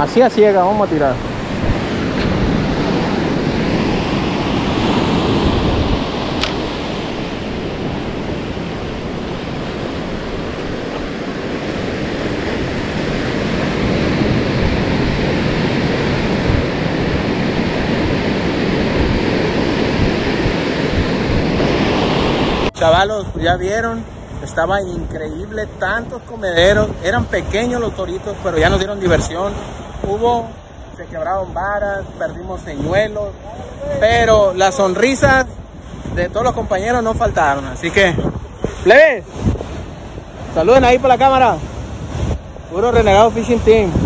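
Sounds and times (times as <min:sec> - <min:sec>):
ocean surf washing: 0:00.0 - 0:44.0
wind buffeting microphone: 0:00.0 - 0:44.0.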